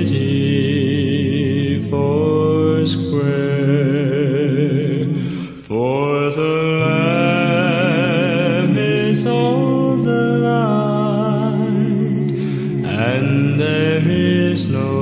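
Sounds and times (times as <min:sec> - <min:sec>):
vocal quartet singing harmony: 0:00.0 - 0:15.0.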